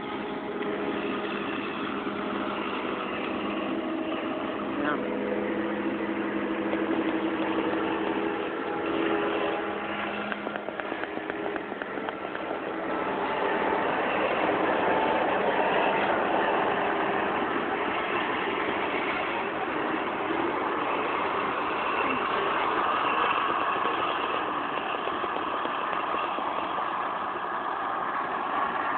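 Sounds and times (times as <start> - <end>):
farm machinery engines running: 0.0 - 28.9.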